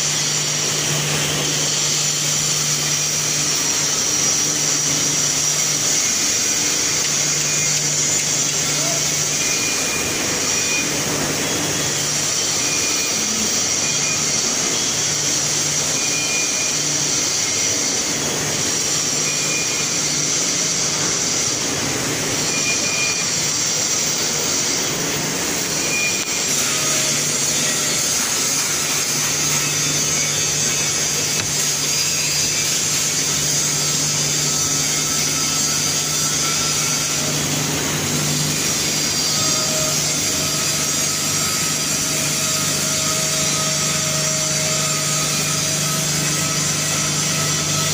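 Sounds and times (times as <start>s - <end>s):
industrial machine drone: 0.0s - 47.9s.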